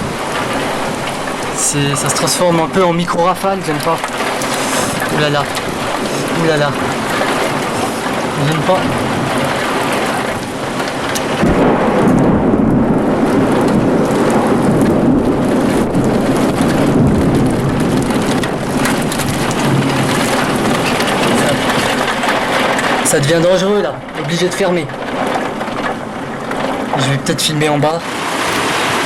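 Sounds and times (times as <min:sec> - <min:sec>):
deep rumble of thunder: 0:00.0 - 0:29.0
heavy rain: 0:00.0 - 0:29.0
strong gusting wind: 0:00.0 - 0:29.0.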